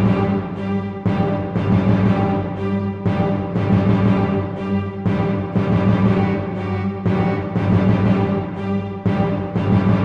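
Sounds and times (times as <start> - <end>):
driving soundtrack music: 0.0 - 10.0.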